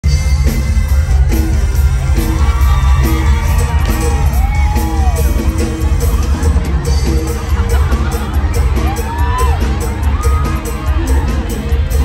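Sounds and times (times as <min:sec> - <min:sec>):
pop dance music over pa: 0:00.3 - 0:12.0.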